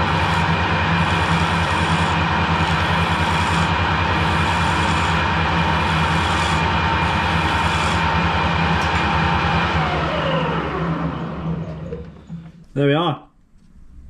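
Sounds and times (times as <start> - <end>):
lathe motor droning: 0.0 - 12.8.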